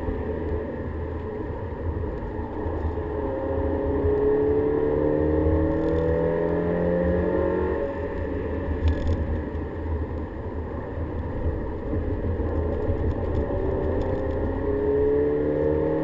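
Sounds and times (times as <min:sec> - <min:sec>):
road and tyre rumble: 0:00.0 - 0:16.0.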